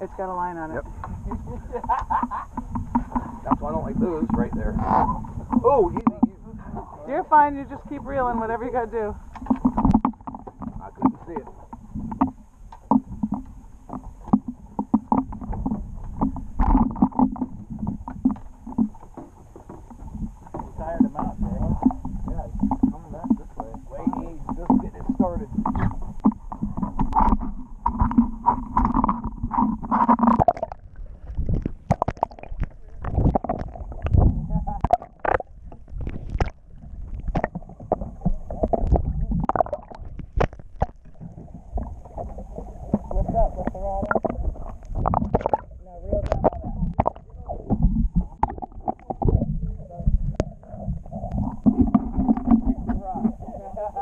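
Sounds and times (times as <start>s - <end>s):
muffled underwater sloshing: 0.0s - 54.0s
water slapping boat hull: 0.0s - 54.0s
wind rumbling on microphone: 0.0s - 54.0s.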